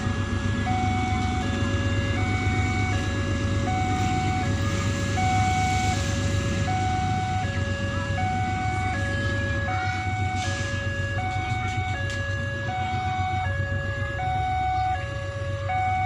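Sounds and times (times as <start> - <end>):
level crossing two-tone alarm: 0.0 - 16.0
locomotive engine rumble: 0.0 - 16.0.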